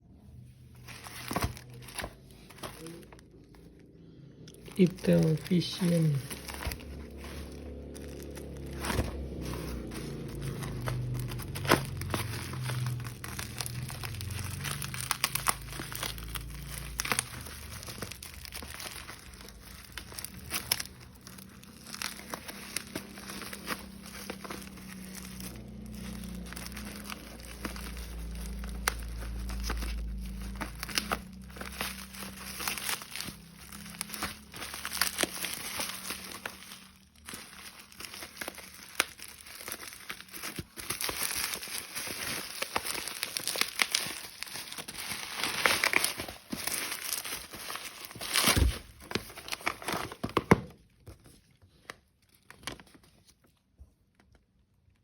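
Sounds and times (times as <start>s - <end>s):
packaging crinkling and rustling: 0.1s - 55.0s.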